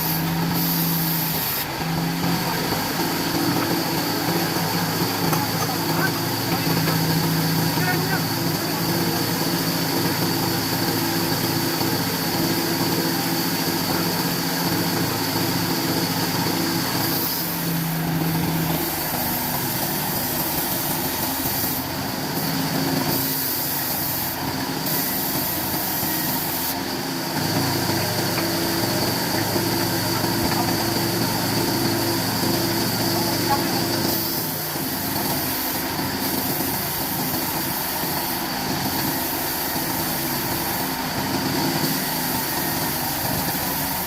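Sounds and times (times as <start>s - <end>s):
wood-cutting machine running: 0.0s - 44.0s.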